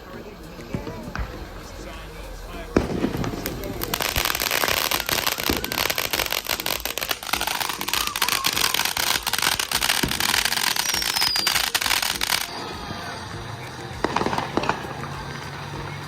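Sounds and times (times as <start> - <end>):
falling firework whistle: 0.0 - 16.0
fireworks crackling: 0.0 - 16.0.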